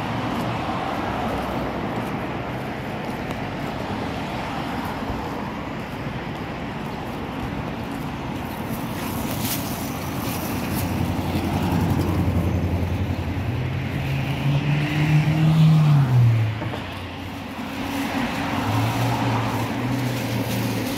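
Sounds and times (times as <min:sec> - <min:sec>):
cars driving past: 0:00.0 - 0:20.9.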